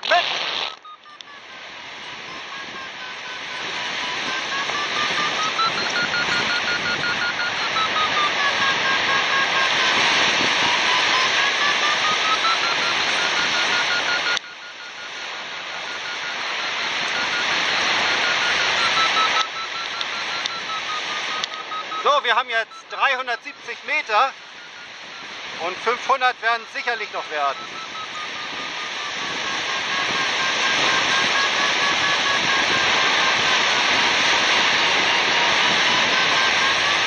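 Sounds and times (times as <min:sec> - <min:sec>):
variometer tone and beeps: 0:00.0 - 0:37.0
wind rushing on microphone: 0:01.4 - 0:14.4, 0:15.0 - 0:37.0.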